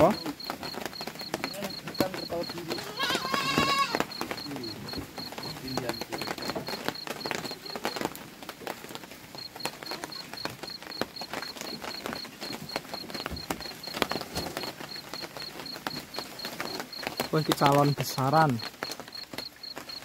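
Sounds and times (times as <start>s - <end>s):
high pulsing chirp: 0.0s - 8.1s, 9.4s - 20.0s
goats feeding: 0.0s - 20.0s
rustling of leafy fodder: 0.0s - 20.0s.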